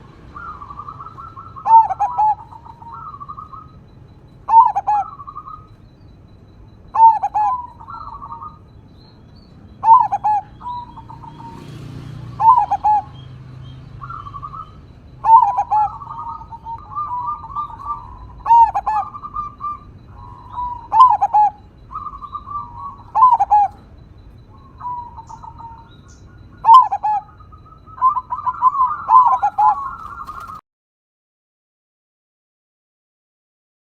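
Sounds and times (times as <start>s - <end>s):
dove cooing: 0.0s - 30.6s.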